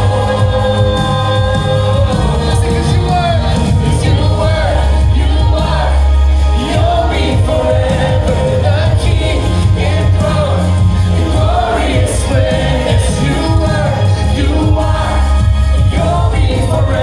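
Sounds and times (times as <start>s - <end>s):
gospel band with heavy bass: 0.0s - 17.0s
group singing: 0.0s - 17.0s.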